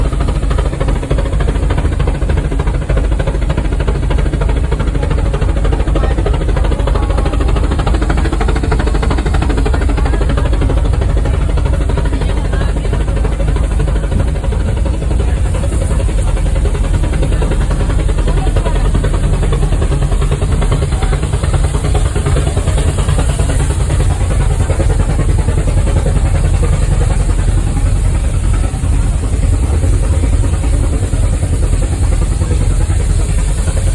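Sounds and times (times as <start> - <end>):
steam locomotive running: 0.0 - 33.9.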